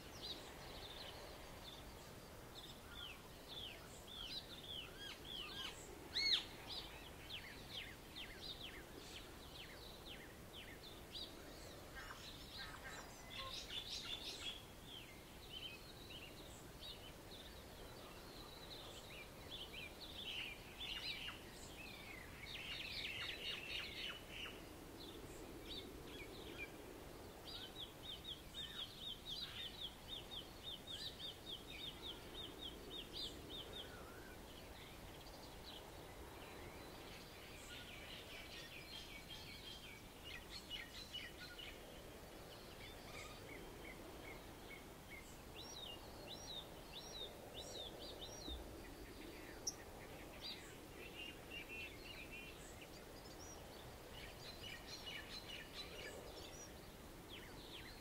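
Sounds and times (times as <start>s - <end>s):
faint waves: 0.0s - 58.0s
songbirds chirping and whistling: 0.0s - 58.0s.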